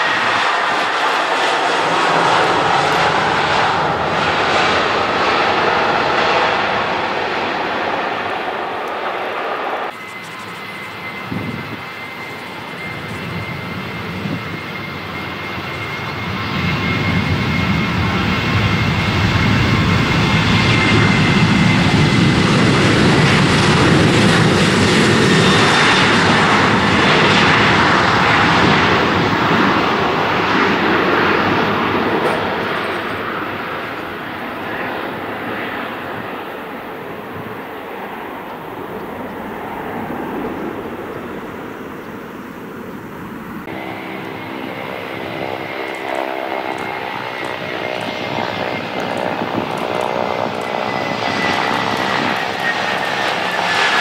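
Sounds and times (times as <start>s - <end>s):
jet airliner taking off: 0.0s - 54.0s
jet engines high whine: 0.0s - 54.0s.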